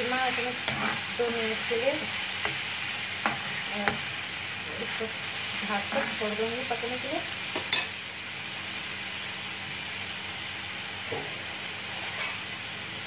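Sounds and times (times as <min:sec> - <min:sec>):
chutney sizzling in an iron pan: 0:00.0 - 0:13.0.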